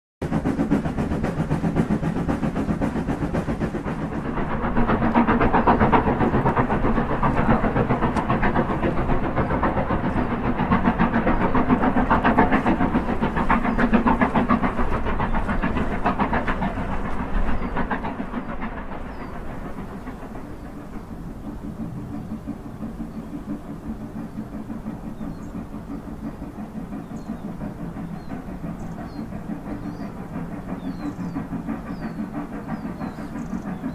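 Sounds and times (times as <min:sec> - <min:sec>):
steam hiss: 0:00.2 - 0:33.9
steam locomotive rhythmic clatter: 0:00.2 - 0:33.9.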